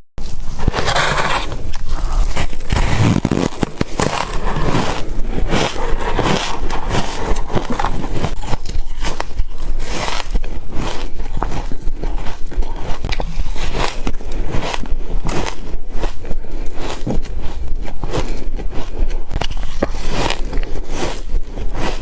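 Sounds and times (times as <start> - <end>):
chewing ice crunches: 0.2 - 22.0.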